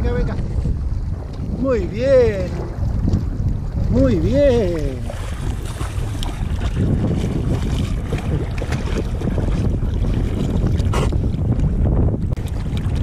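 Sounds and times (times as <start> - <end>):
water sloshing and splashing: 0.0 - 13.0
wind rumble on microphone: 0.0 - 13.0
dog paddling in water: 2.2 - 13.0.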